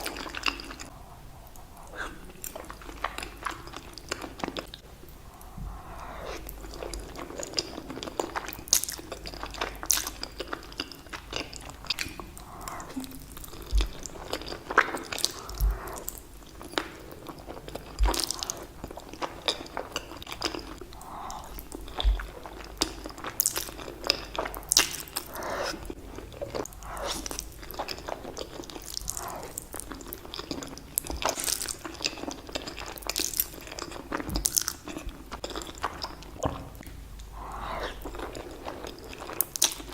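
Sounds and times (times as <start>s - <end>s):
chewing spaghetti: 0.0s - 39.9s.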